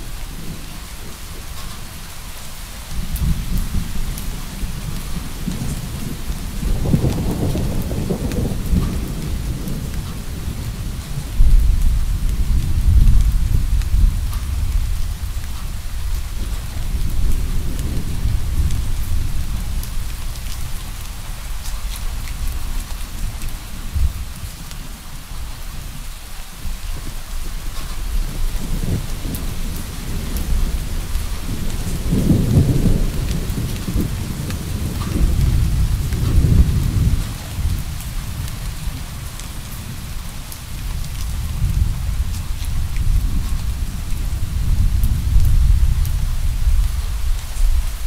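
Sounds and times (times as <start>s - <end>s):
steady rain hissing: 0.0s - 48.0s
distant thunder rumbling: 3.0s - 24.6s, 26.9s - 48.0s.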